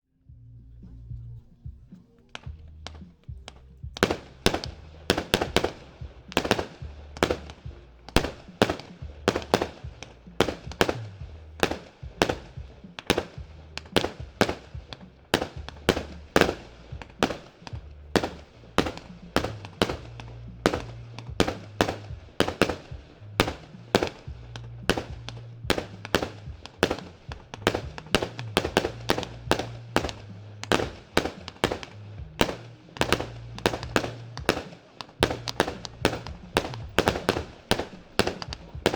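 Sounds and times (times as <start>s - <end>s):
background music: 0.1s - 38.9s
firework cake bangs: 1.4s - 38.9s.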